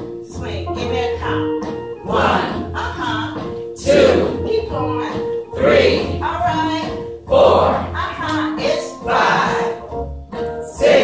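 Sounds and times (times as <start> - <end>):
music with singing: 0.0 - 11.0.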